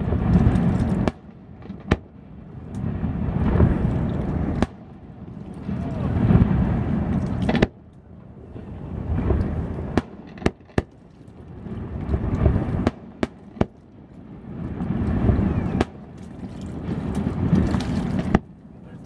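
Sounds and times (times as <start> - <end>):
distant fireworks cracking: 0.0 - 19.0
low rumbling booms: 0.0 - 19.0.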